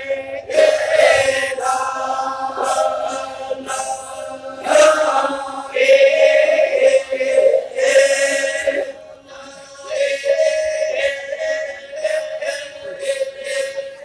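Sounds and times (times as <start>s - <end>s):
group of voices chanting: 0.0s - 14.0s.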